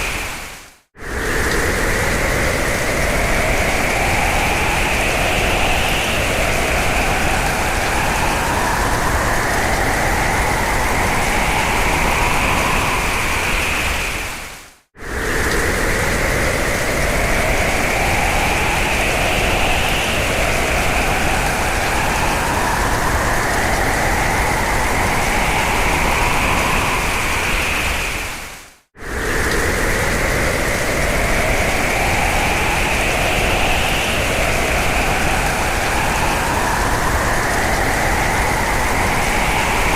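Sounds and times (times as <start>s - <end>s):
strong storm wind howling: 0.0s - 39.9s.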